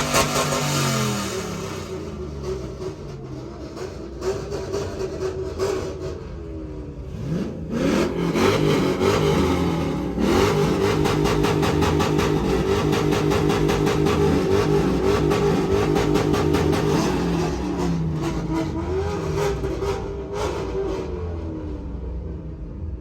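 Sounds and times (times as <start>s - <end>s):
vehicle engine revving: 0.0s - 23.0s.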